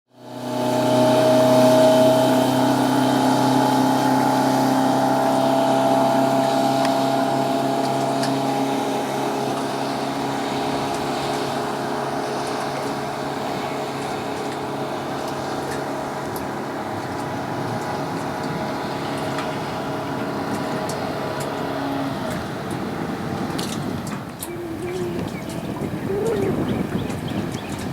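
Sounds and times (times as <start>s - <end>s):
boat engine running at low speed: 0.1s - 27.9s.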